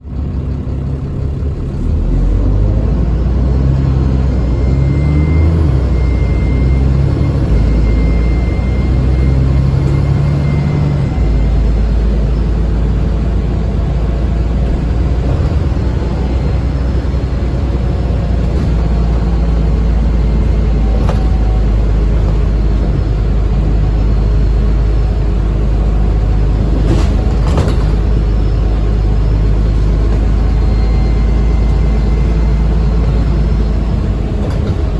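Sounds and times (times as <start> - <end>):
bus diesel engine pulling away: 0.0 - 34.9
turbo whine: 0.6 - 34.9.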